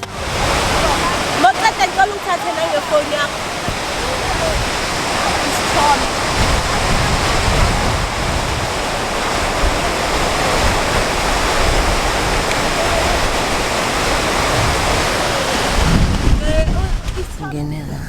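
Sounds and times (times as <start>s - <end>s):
steady rushing noise: 0.0s - 17.7s.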